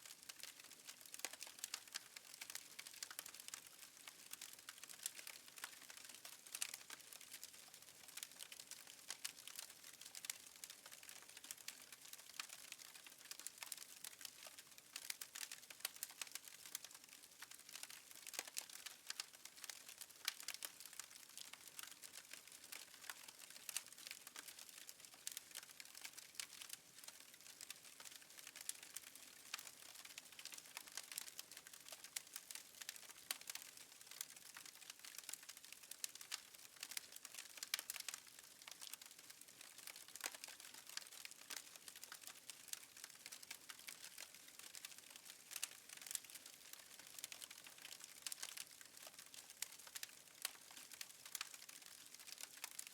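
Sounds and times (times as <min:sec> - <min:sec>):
wood fire crackling: 0:00.2 - 0:52.9.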